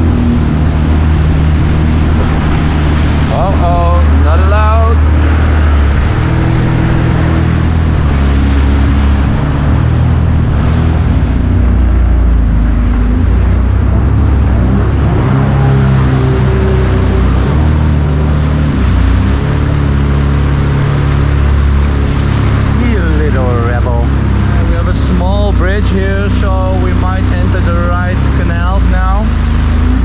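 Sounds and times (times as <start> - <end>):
jet ski running: 0.0 - 30.0.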